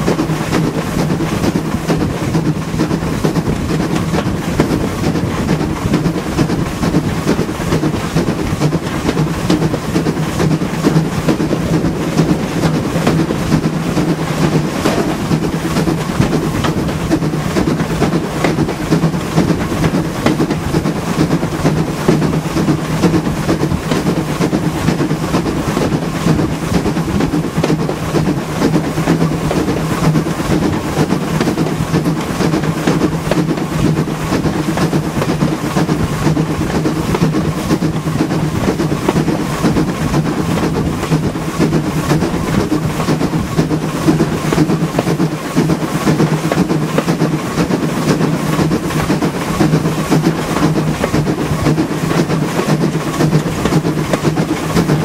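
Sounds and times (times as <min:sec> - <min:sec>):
steam locomotive exhaust beats: 0:00.0 - 0:55.0
train wheels clattering on rails: 0:00.0 - 0:55.0.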